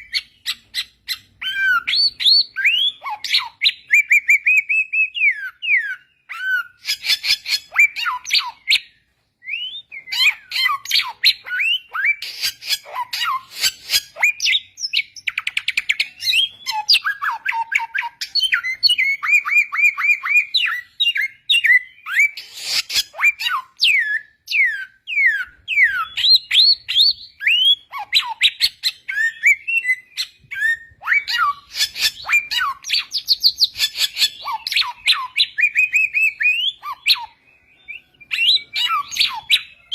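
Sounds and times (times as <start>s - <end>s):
songbird singing: 0.0s - 13.4s, 14.2s - 39.9s.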